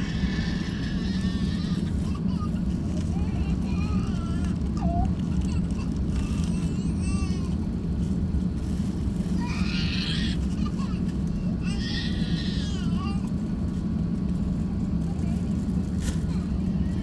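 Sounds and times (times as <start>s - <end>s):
airliner engines rumbling: 0.0s - 17.0s.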